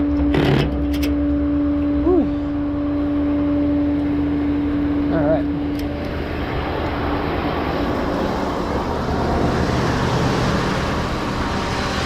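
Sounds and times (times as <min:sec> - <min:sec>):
truck engine drone: 0:00.0 - 0:12.0
road noise hiss: 0:02.2 - 0:12.0.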